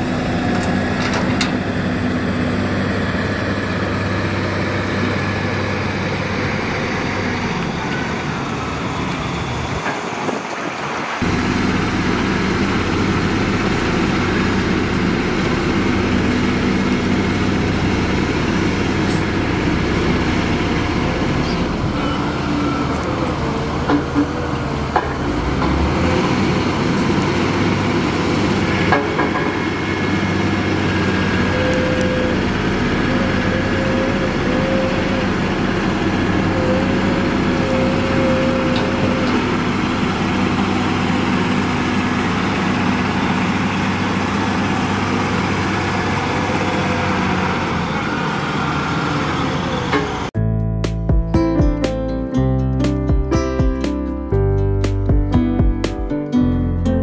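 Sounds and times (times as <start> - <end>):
heavy machinery diesel engines: 0.0 - 50.4.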